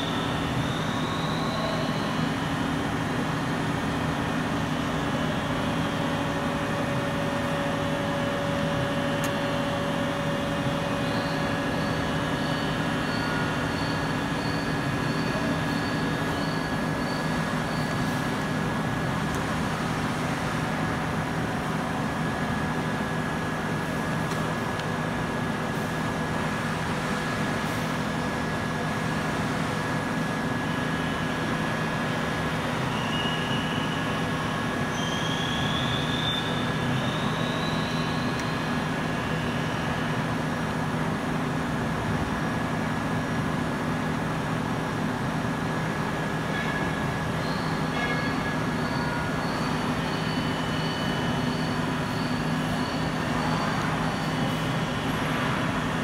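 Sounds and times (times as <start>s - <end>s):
machinery low hum: 0.0s - 56.0s.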